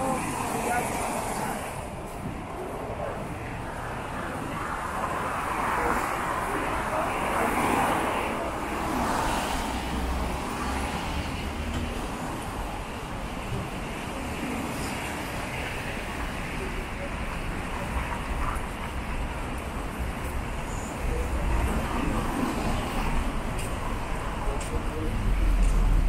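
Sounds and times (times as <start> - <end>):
cars passing on wet road: 0.0 - 26.0.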